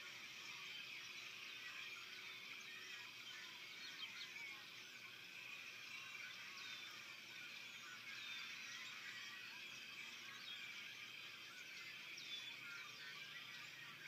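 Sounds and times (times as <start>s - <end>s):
chorus of high chirps: 0.0s - 14.0s.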